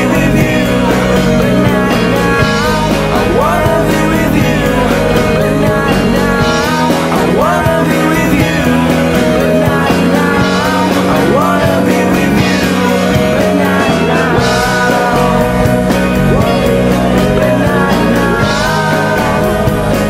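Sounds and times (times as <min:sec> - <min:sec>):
indie rock band playing: 0:00.0 - 0:20.0.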